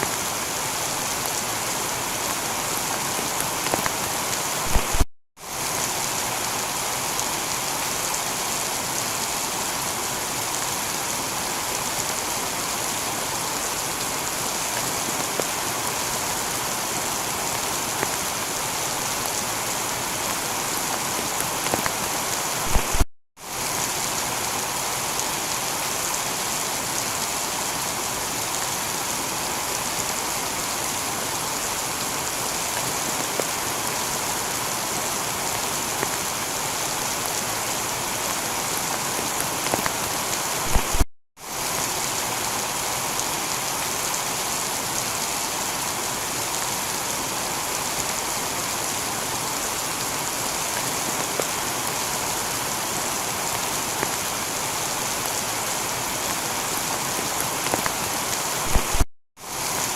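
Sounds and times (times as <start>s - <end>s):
heavy rain on a tiled roof: 0.0s - 59.9s.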